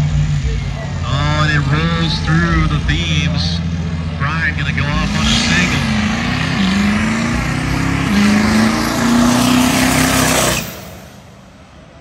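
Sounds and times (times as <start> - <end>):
diesel truck at full throttle: 0.0 - 12.0.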